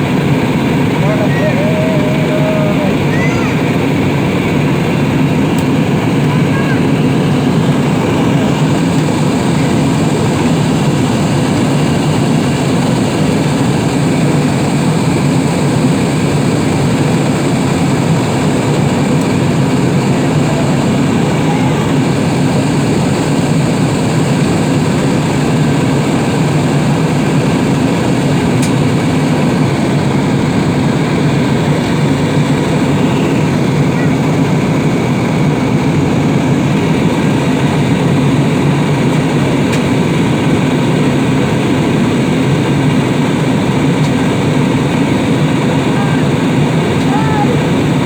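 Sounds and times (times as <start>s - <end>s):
airliner cabin engine noise: 0.0s - 48.0s.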